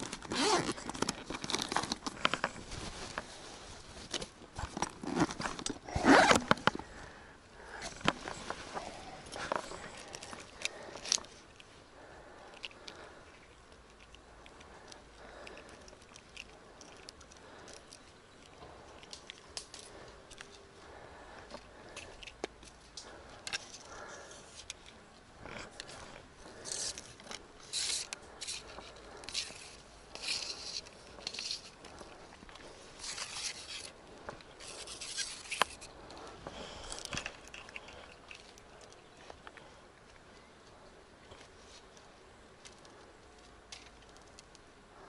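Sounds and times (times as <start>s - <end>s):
hands rustling fishing line: 0.0s - 40.2s.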